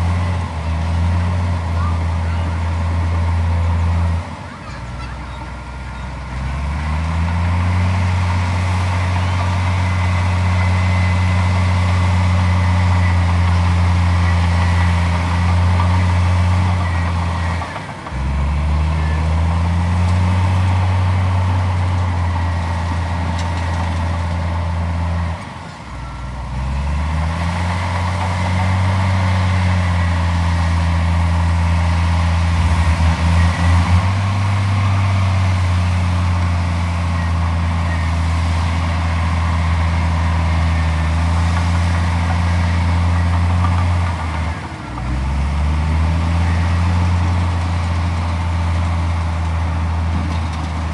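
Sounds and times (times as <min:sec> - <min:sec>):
heavy diesel engine revving: 0:00.0 - 0:04.4, 0:05.6 - 0:25.6, 0:26.3 - 0:50.9.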